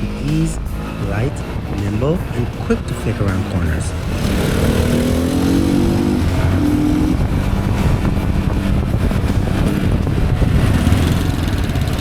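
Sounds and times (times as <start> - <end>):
motorcycle engine droning: 0.0 - 12.0
road noise: 0.0 - 12.0
wind: 0.0 - 12.0.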